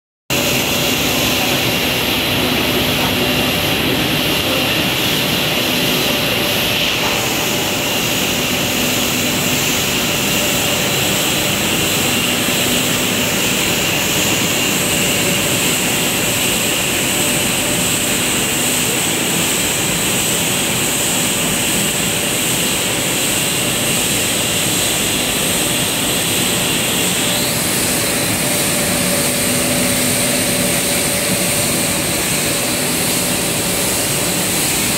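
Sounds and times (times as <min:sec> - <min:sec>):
high steady whining tones: 0:00.3 - 0:34.9
machine mechanical drone: 0:00.3 - 0:34.9.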